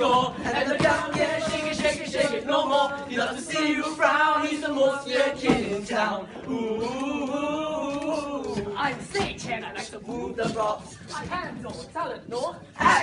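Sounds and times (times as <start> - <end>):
group of voices singing: 0.0 - 13.0.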